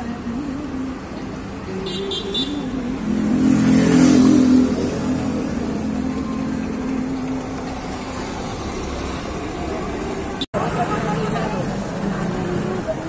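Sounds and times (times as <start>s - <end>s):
road traffic noise: 0.0s - 13.0s
vehicle engine running: 0.0s - 13.0s.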